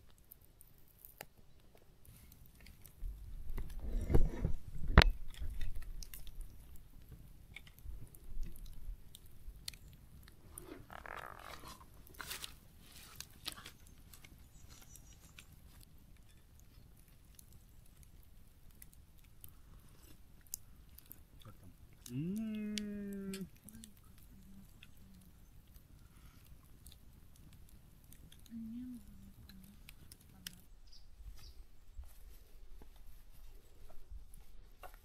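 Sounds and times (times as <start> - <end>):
campfire crackling: 0.0 - 35.0
fire pops and snaps: 0.0 - 35.0.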